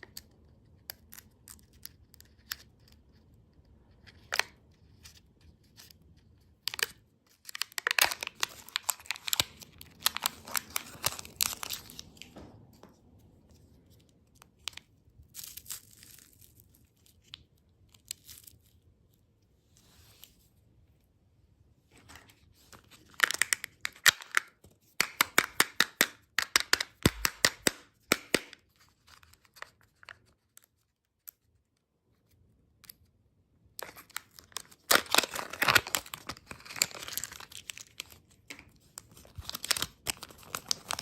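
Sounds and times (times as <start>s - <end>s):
candy wrapper tearing and crinkling: 0.0s - 5.1s, 5.7s - 12.3s, 13.5s - 18.9s, 22.7s - 31.5s, 33.8s - 41.0s.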